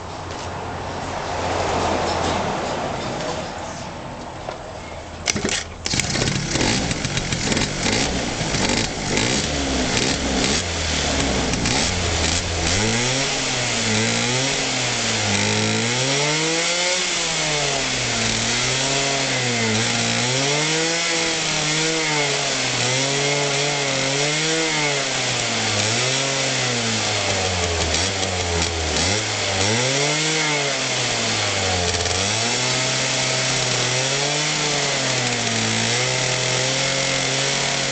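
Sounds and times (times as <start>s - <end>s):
moped engine starting and revving: 5.2s - 37.9s.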